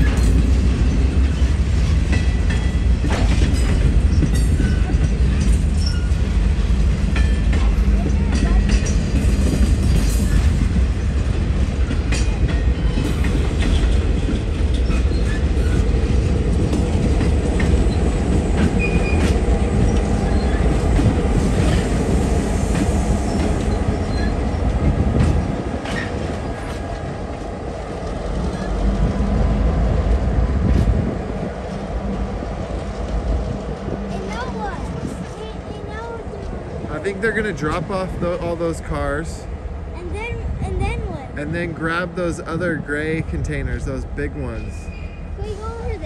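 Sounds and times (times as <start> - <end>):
diesel locomotive rumble: 0.0 - 46.0
train wheels clattering over rails: 0.0 - 46.0.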